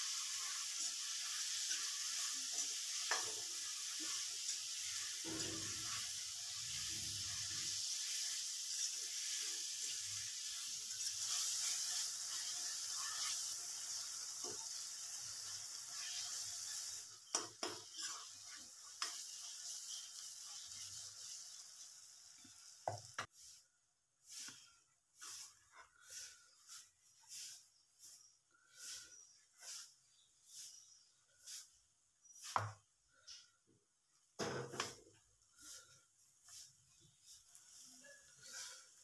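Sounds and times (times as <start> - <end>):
spatula stirring and scraping: 0.0 - 21.8, 22.4 - 32.8, 35.5 - 39.0
sauce sizzling in oil: 0.0 - 23.6, 24.2 - 32.8, 35.6 - 39.0.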